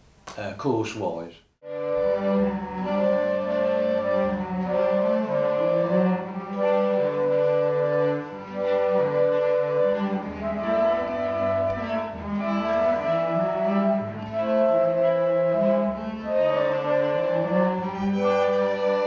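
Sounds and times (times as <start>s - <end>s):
string ensemble playing chords: 1.6s - 19.0s.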